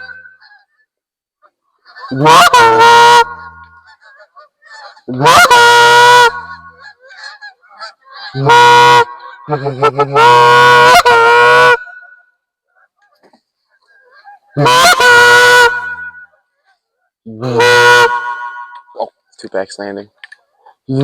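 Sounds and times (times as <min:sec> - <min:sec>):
goose call honks: 0:00.0 - 0:00.8, 0:01.8 - 0:19.2
faint distant goose calls: 0:00.0 - 0:20.9.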